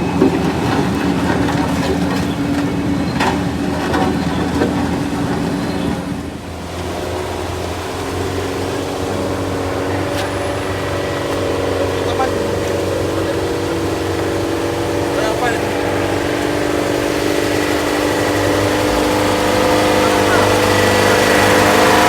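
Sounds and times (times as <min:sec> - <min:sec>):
heavy vehicle engine under load: 0:00.0 - 0:22.0.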